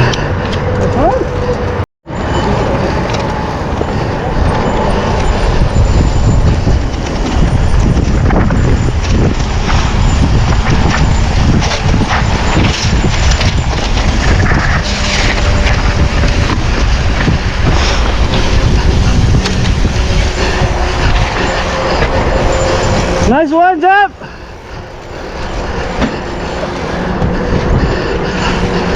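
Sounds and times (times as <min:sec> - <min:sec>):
rushing rumble of bike riding: 0:00.0 - 0:28.9.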